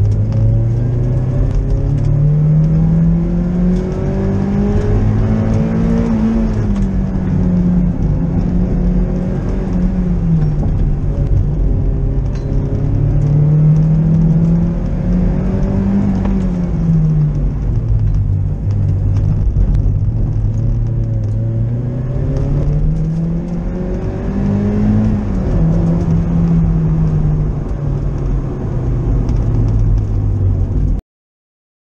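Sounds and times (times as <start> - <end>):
car engine from cabin: 0.0 - 30.9
low road rumble: 0.0 - 31.0.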